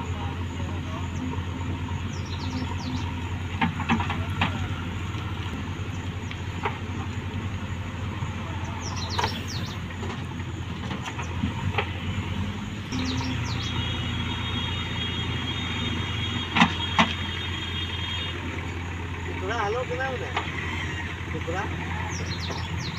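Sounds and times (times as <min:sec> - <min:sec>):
backhoe digging mud: 0:00.0 - 0:22.9
diesel engine running: 0:00.0 - 0:22.9.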